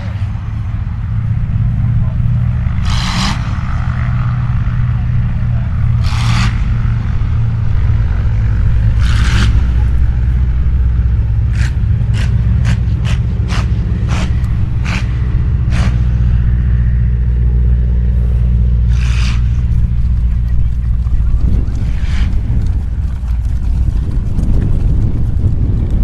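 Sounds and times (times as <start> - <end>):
biplane engine droning: 0.0 - 26.0.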